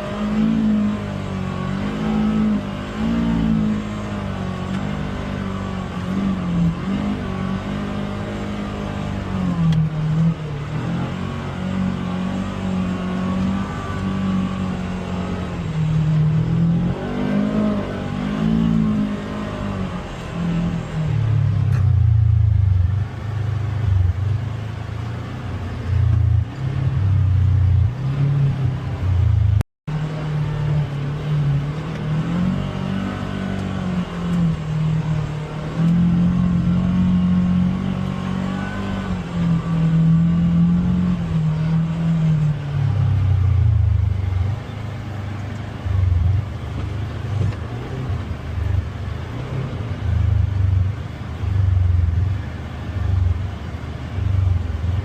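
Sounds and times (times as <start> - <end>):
utility vehicle engine revving: 0.0 - 55.0.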